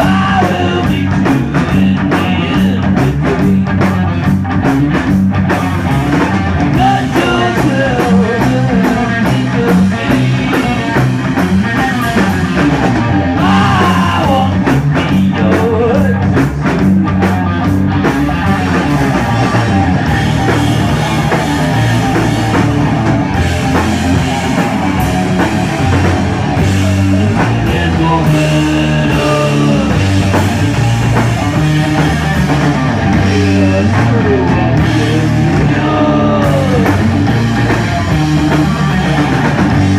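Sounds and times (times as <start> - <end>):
bass guitar: 0.0 - 39.9
drum kit: 0.0 - 39.9
electric guitar riffs: 0.0 - 39.9.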